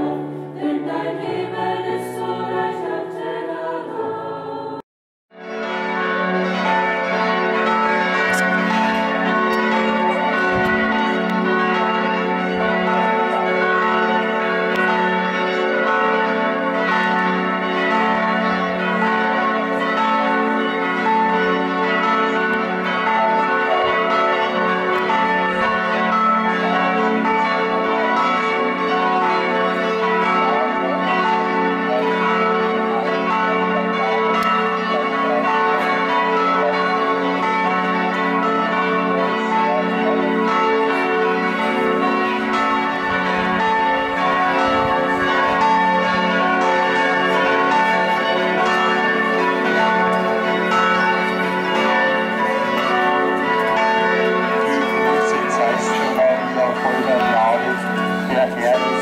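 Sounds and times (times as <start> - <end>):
church bells pealing: 0.0 - 4.8, 5.4 - 59.0.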